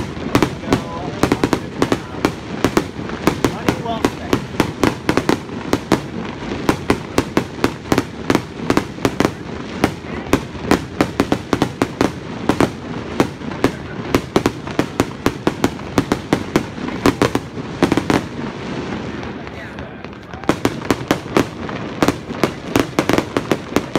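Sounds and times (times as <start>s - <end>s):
fireworks bursting: 0.0s - 23.9s.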